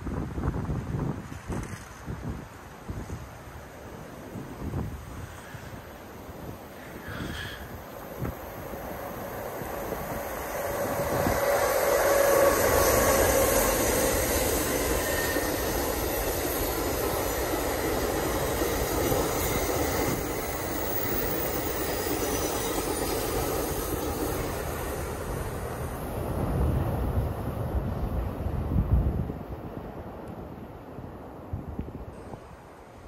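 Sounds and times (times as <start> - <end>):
train wheels rumbling on rail: 0.0 - 30.6
faint train whine: 0.0 - 33.0.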